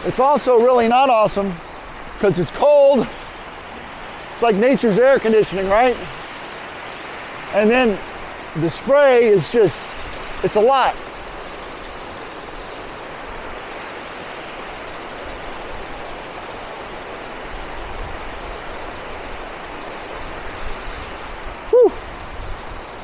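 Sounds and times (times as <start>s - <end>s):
waterfall rushing onto rocks: 0.0s - 23.0s.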